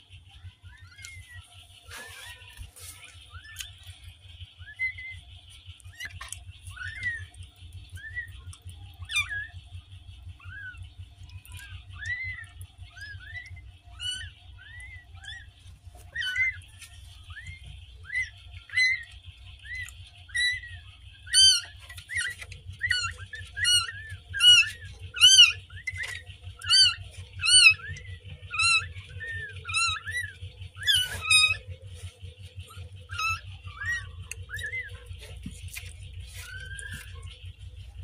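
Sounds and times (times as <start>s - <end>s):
kittens mewing: 0.4s - 5.2s, 5.8s - 38.0s.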